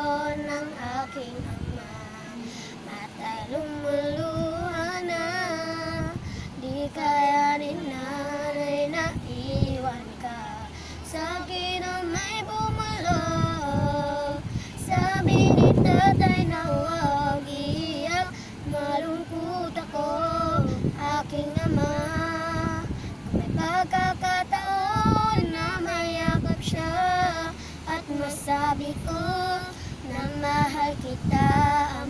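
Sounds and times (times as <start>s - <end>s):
girl singing unaccompanied: 0.0s - 32.0s
low rush of noise: 0.0s - 32.0s.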